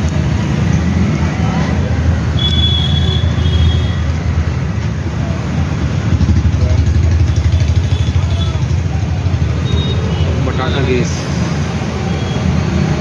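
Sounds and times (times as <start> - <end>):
motor vehicles rumbling: 0.0 - 13.0.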